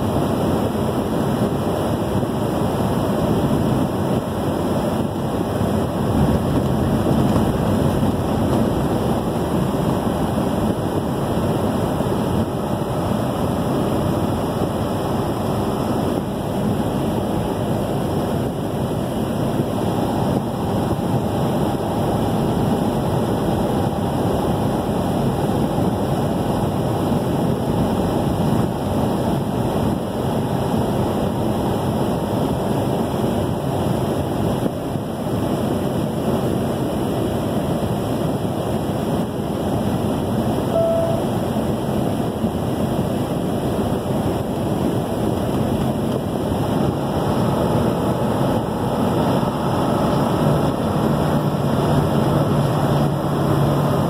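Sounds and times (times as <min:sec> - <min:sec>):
car road noise at speed: 0:00.0 - 0:54.0.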